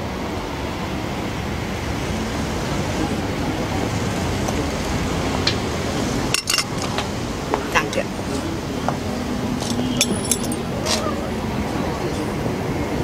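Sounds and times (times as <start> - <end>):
low rumble of outdoor noise: 0.0 - 13.0.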